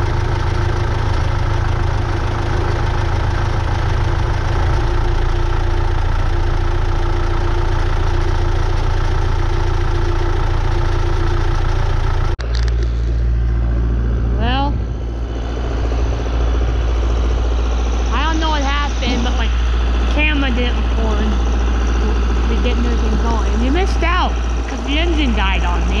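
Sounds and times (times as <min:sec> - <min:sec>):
low rumble: 0:00.0 - 0:26.0
pump engine humming: 0:00.0 - 0:26.0.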